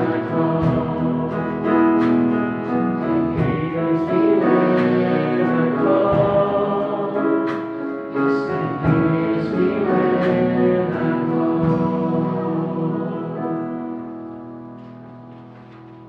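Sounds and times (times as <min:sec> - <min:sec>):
voices singing together: 0:00.0 - 0:13.9
guitar: 0:00.0 - 0:16.0
keyboard: 0:00.0 - 0:16.0.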